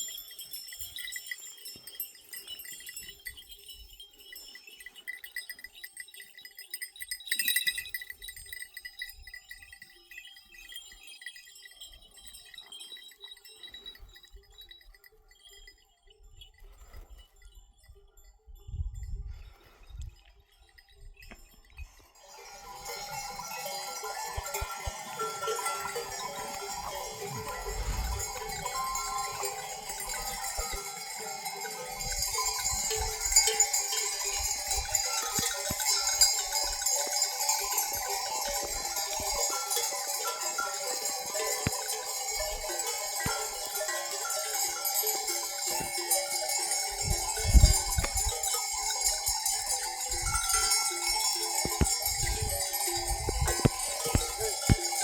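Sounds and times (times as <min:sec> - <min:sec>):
animal neck bells clinking: 0:00.0 - 0:55.0.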